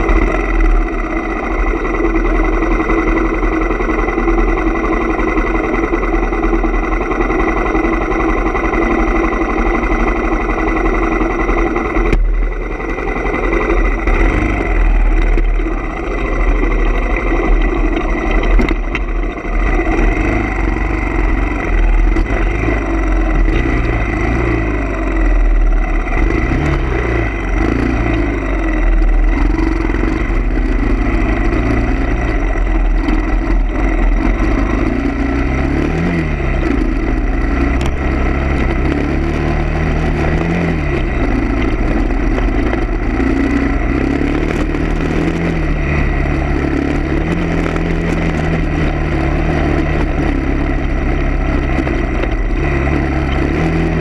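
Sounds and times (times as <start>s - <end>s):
engine speeding up and slowing: 0.0s - 54.0s.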